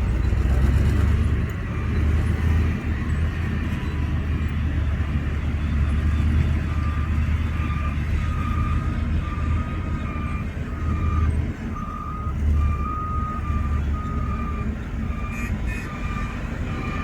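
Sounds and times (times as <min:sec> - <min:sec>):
diesel engines rumbling: 0:00.0 - 0:17.0
reversing alarm beeps: 0:00.0 - 0:17.0.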